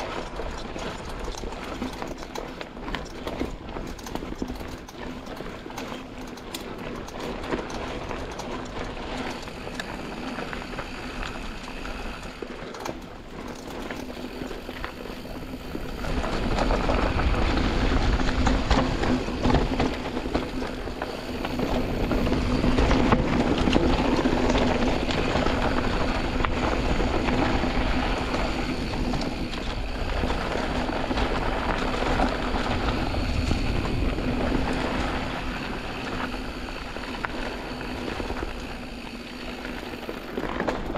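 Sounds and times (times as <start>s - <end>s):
bike rattling and clicking: 0.0s - 40.9s
tyres rolling over loose ground: 0.0s - 40.9s
wind on camera: 0.0s - 40.9s.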